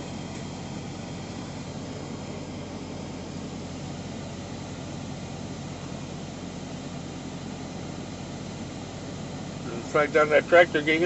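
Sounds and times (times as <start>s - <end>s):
truck engine idling hum: 0.0s - 11.0s.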